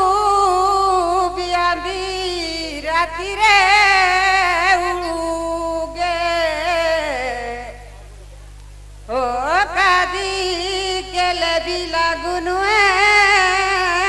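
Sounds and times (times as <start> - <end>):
woman singing folk song: 0.0 - 7.8, 9.1 - 14.0.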